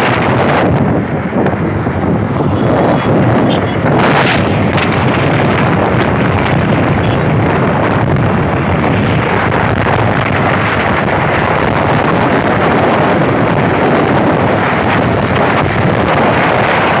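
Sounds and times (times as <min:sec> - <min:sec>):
moving vehicle running: 0:00.0 - 0:17.0
wind buffeting microphone: 0:00.0 - 0:17.0.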